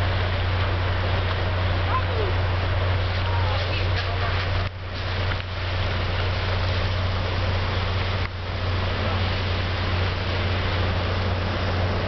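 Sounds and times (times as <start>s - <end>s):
ship engines droning: 0.0s - 12.0s
wind and water rushing: 0.0s - 12.0s.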